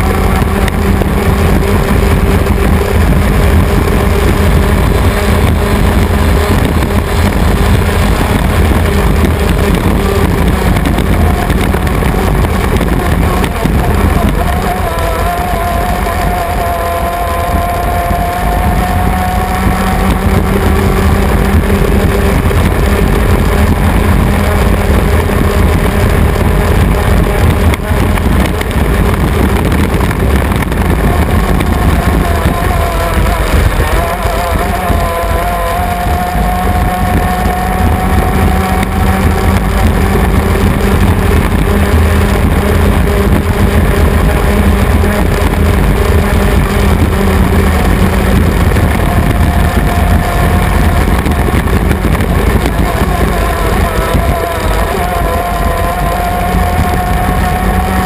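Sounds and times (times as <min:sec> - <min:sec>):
boat engine running hard: 0:00.0 - 0:58.0
water rush: 0:00.0 - 0:58.0
wind rush: 0:00.0 - 0:58.0.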